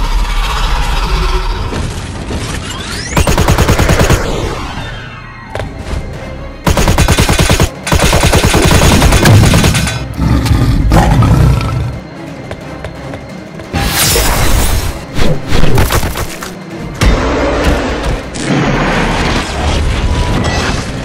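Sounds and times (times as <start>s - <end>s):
music: 0.0s - 21.0s.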